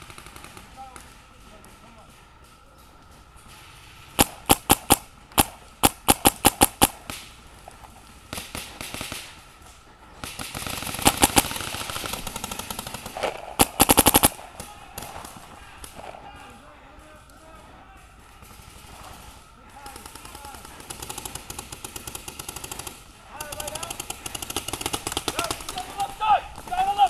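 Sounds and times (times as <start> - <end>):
paintball markers firing: 0.0 - 17.4, 18.0 - 27.0
faint distant rapid fire: 0.0 - 27.0.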